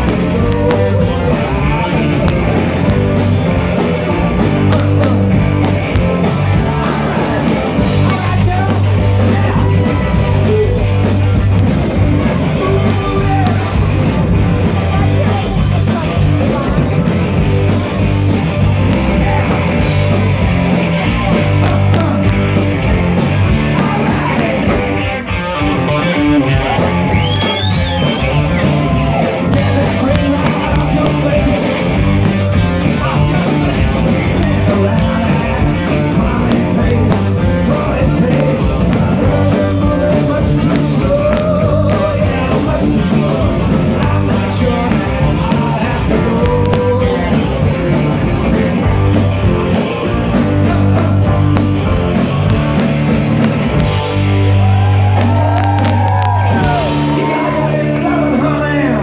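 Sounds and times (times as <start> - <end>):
man singing: 0.0 - 25.0, 26.7 - 52.0, 56.6 - 59.0
bass guitar: 0.0 - 59.0
drums: 0.0 - 59.0
electric guitars: 0.0 - 59.0.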